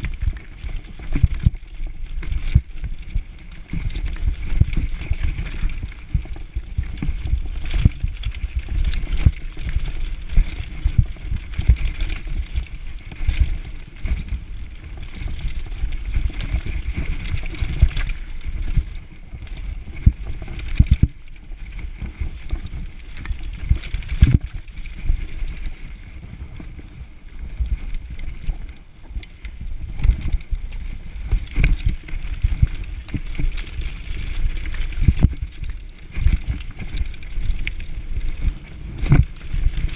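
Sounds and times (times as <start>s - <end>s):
bike knocking and rattling: 0.0s - 39.9s
bike tyres rumbling on dirt: 0.0s - 39.9s.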